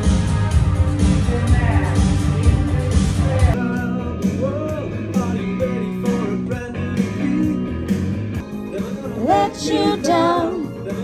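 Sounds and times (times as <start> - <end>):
upbeat pop-rock music with guitar: 0.0 - 11.0.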